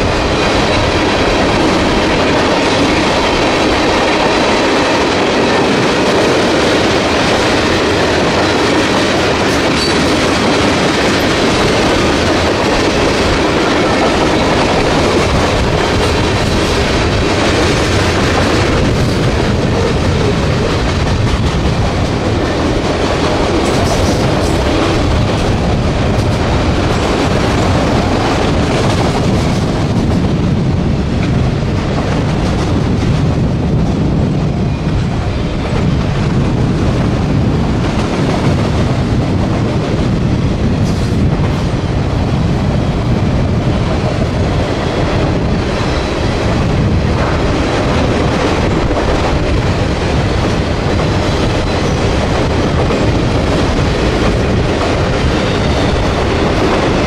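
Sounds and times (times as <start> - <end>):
train cars rolling past: 0.0 - 57.0.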